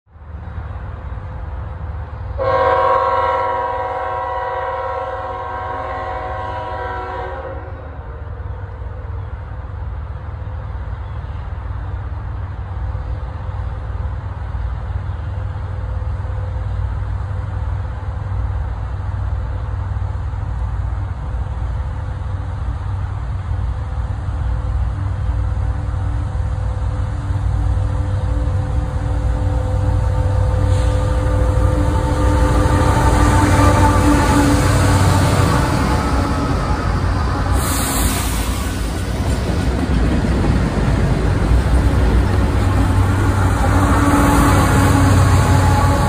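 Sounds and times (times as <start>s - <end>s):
freight train rumble: 0.1s - 46.0s.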